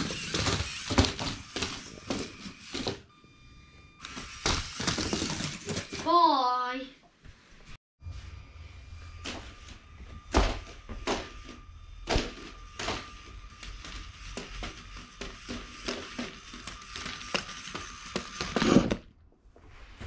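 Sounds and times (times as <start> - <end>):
faint motor whine: 0.0 - 6.2, 7.3 - 18.9.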